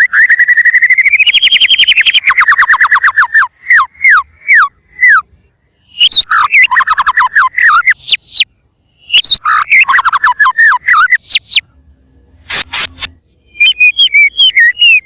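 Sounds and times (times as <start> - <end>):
songbird whistling: 0.0 - 15.0.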